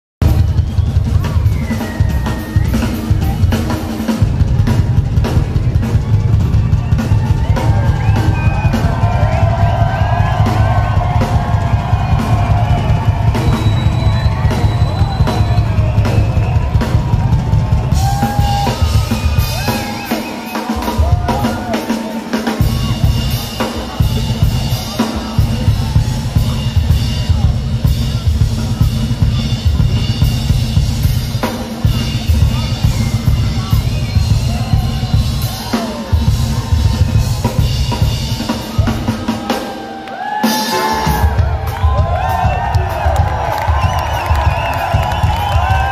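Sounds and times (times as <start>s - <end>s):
drum kit solo: 0.2s - 45.9s.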